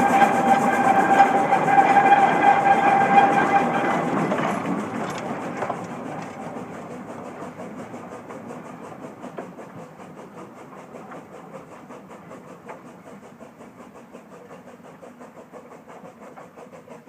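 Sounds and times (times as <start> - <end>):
steam train exhaust beat: 0.0 - 17.0.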